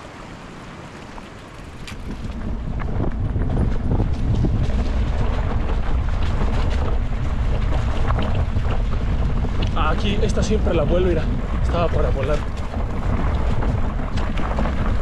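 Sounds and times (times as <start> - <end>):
wind buffeting microphone: 1.1 - 15.0.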